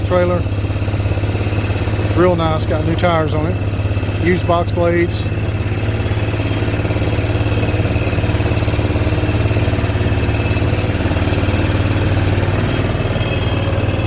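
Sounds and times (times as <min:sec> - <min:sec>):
vehicle engine running at low revs: 0:00.0 - 0:14.0.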